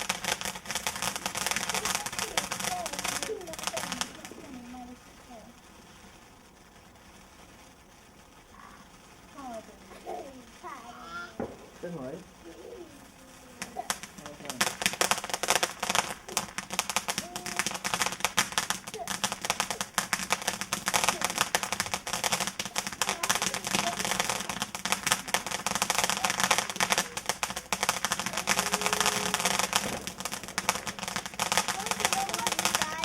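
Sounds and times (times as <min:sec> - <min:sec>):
faint voices: 0:00.0 - 0:05.9, 0:08.3 - 0:33.0
firework crackling: 0:00.0 - 0:33.0.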